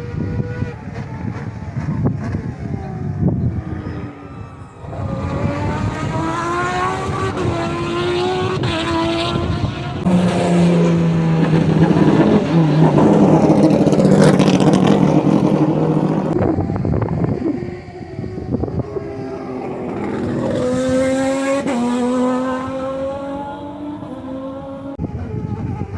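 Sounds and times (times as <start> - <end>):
race car engines at full throttle: 0.0 - 25.9.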